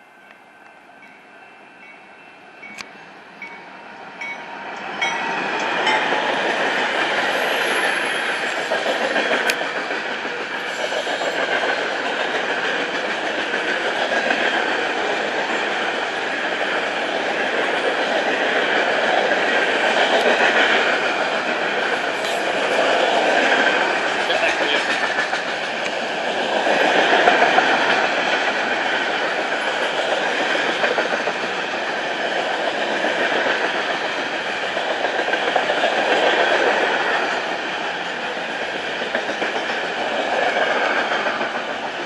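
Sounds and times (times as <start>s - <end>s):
diesel locomotives passing: 0.0s - 42.0s
train wheels on rails: 0.0s - 42.0s.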